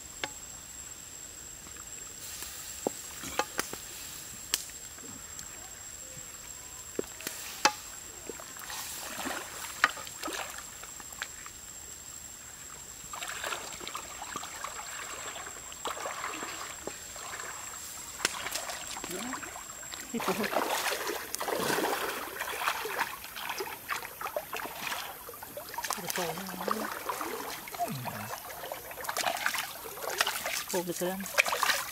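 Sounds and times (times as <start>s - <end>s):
water simmering in a wok: 0.1s - 31.9s
people wading in a stream: 5.0s - 11.6s, 12.2s - 31.9s.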